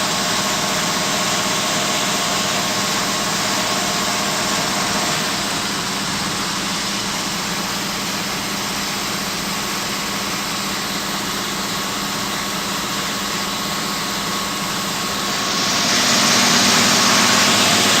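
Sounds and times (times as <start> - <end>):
turbocharged engine running: 0.0 - 18.0.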